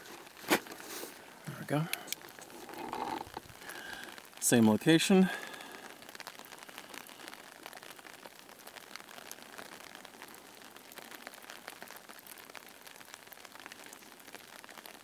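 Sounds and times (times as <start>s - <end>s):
light rain in a forest: 0.0s - 15.0s.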